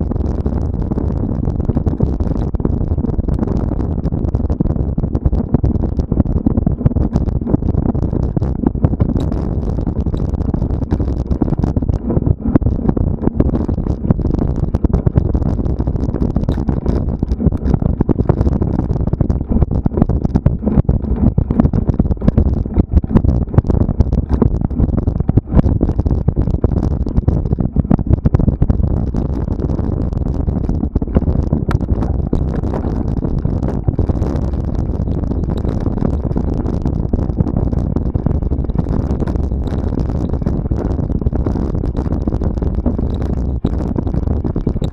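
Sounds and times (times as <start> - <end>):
bike tyres rumbling on trail: 0.0 - 44.9
wind on microphone: 0.0 - 44.9.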